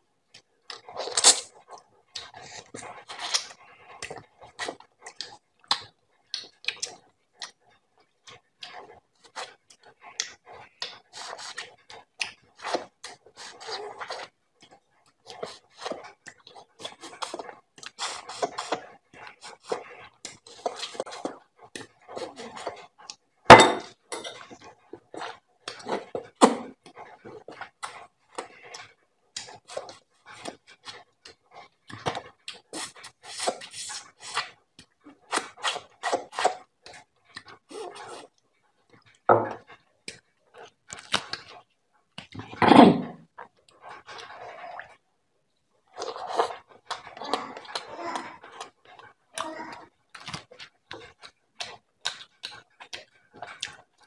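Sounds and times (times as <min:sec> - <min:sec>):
wet chewing and lip-smacking: 0:00.2 - 0:42.6, 0:43.2 - 0:45.0, 0:45.8 - 0:54.0.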